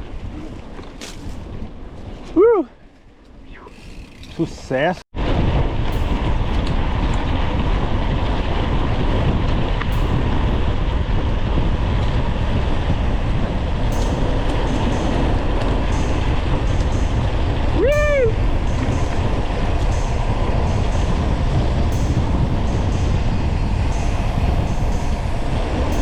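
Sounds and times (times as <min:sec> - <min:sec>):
wind rush on microphone: 0:00.0 - 0:26.0.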